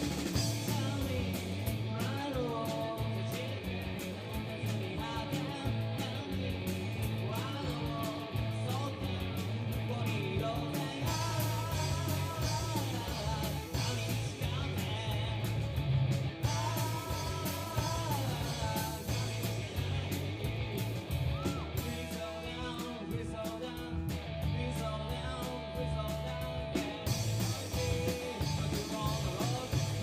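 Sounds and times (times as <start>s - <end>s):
drum kit beating: 0.0s - 30.0s
heavy electric guitar: 0.0s - 30.0s.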